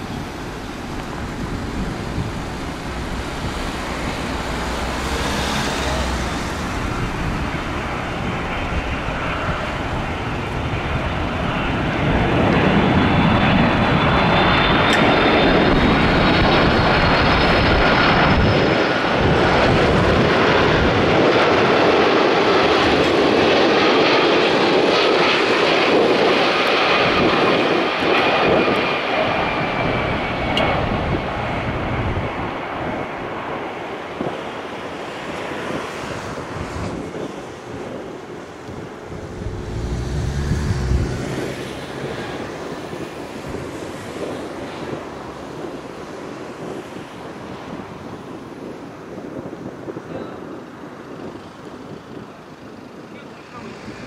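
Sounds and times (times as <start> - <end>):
jet aircraft rushing noise: 0.0 - 49.2
high jet engine whine: 0.0 - 54.0.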